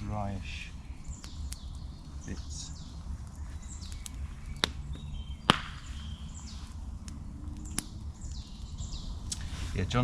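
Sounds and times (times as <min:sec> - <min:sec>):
faint birds chirping: 0:00.0 - 0:10.0
dry wood cracking: 0:00.8 - 0:09.5.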